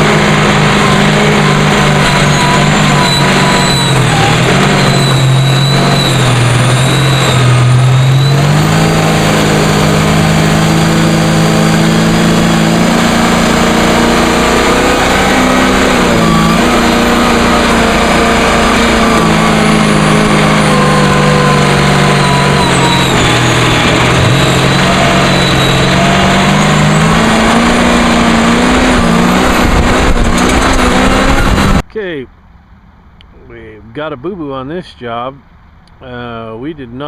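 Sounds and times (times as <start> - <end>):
large engine running hard: 0.0 - 33.7.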